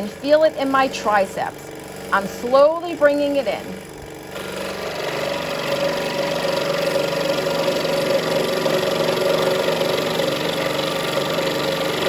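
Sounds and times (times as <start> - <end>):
scroll saw cutting wood: 0.0 - 12.0.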